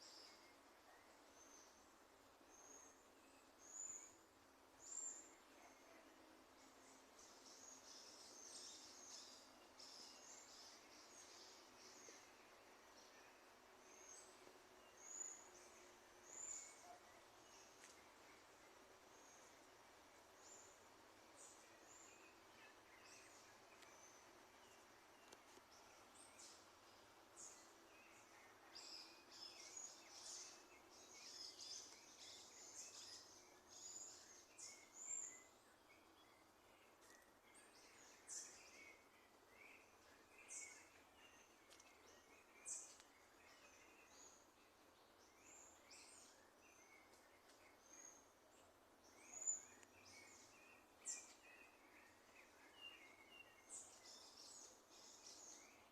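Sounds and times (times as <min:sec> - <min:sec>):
birds chirping: 0:00.0 - 0:55.9
soft background hiss: 0:00.0 - 0:55.9.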